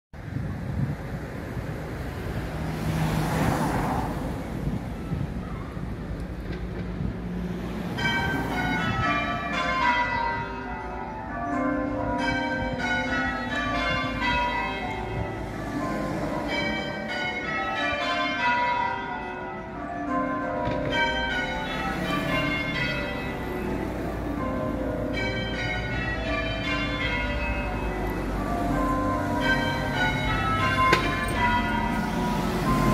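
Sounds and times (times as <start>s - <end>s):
church bells ringing in rounds: 2.6s - 32.9s.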